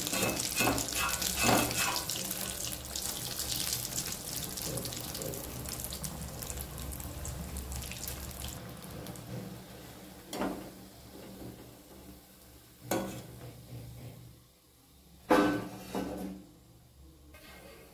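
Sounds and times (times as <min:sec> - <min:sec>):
deep-frying sizzle: 0:00.0 - 0:14.4.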